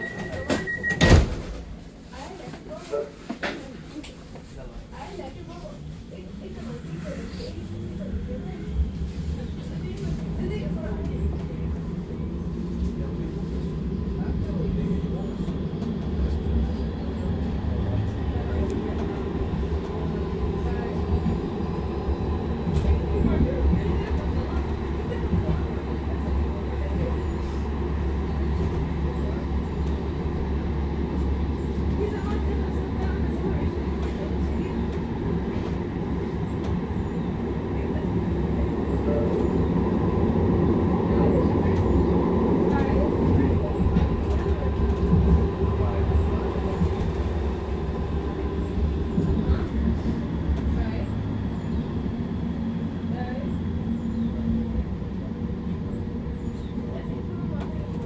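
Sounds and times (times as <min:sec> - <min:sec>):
faint passenger voices: 0:00.0 - 0:58.0
tram low rumble: 0:00.0 - 0:58.0.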